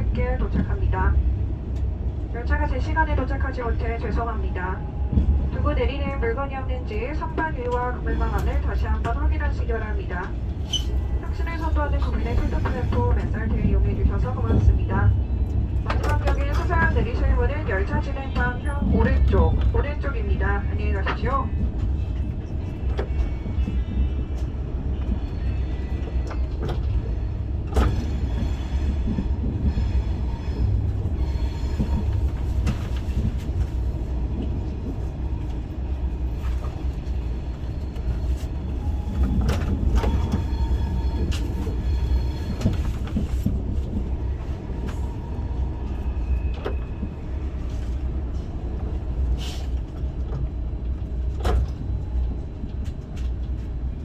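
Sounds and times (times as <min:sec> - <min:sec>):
train cabin rumble: 0:00.0 - 0:54.0.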